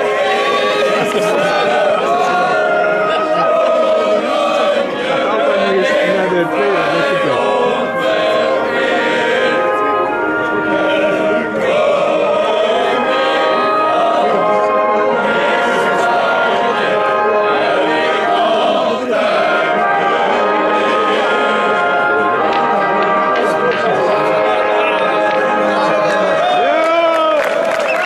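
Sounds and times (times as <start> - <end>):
group of voices singing: 0.0 - 26.8
anthem music playing: 0.0 - 28.0.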